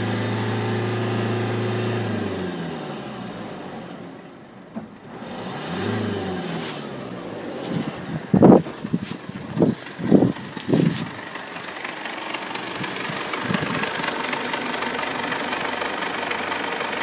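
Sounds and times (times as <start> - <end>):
diesel engine idling: 1.2 - 17.0.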